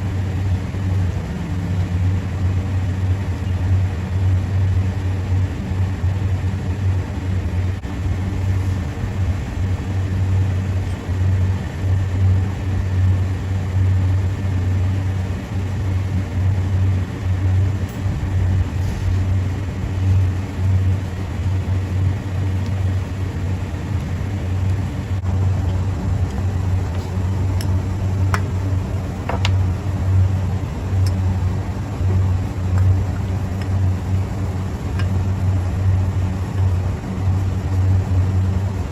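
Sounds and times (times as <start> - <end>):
low machine hum: 0.0 - 38.9.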